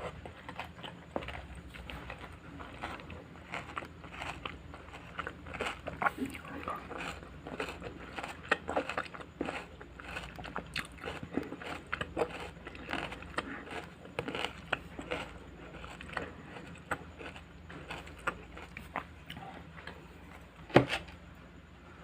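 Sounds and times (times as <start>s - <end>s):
crunching and chewing vegetables: 0.0s - 22.0s.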